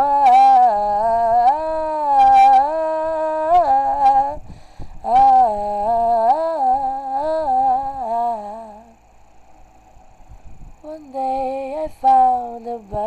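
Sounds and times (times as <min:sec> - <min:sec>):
person humming a melody: 0:00.0 - 0:09.0, 0:10.8 - 0:13.0.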